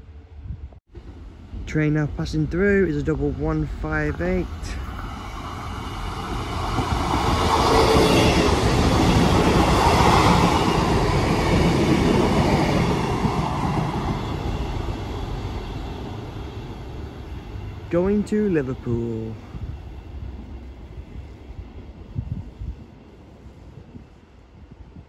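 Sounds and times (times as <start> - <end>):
diesel trains passing: 0.0 - 25.0.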